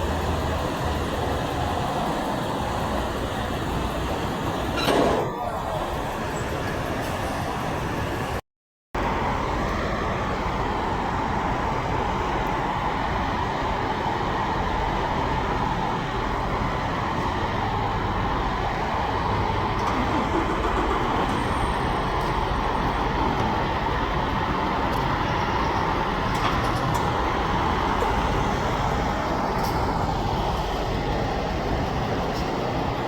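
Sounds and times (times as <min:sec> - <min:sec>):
road traffic rumble: 0:00.0 - 0:08.4, 0:09.0 - 0:33.0.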